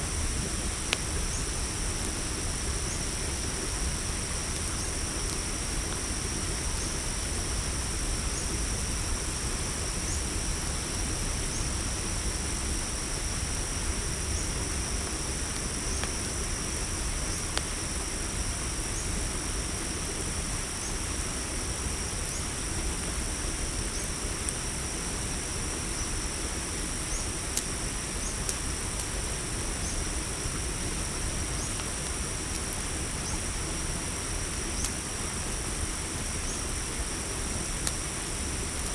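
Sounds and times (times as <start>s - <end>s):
campfire crackling: 0.0s - 38.9s
crickets trilling: 0.0s - 38.9s.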